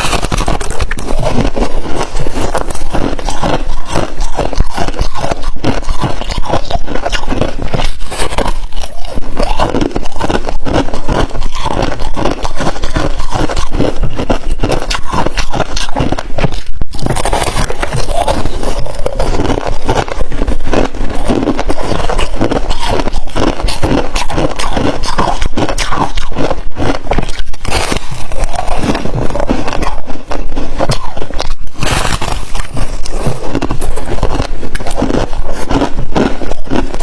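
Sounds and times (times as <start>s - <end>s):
frost ice crunching: 0.0s - 37.0s.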